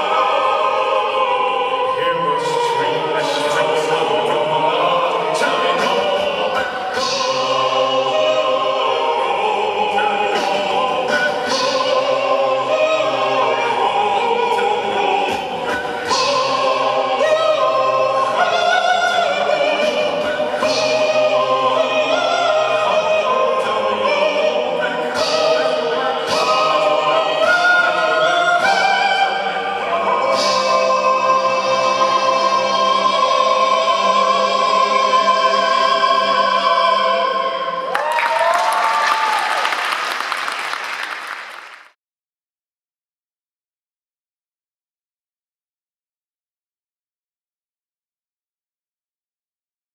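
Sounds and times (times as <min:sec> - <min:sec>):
choir singing: 0:00.0 - 0:41.8.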